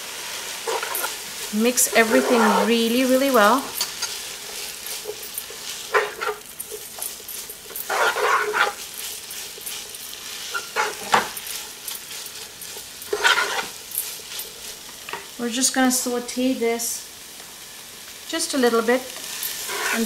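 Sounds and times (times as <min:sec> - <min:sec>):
food sizzling in oil: 0:00.0 - 0:20.0
spatula stirring in pan: 0:00.1 - 0:15.4, 0:19.1 - 0:20.0.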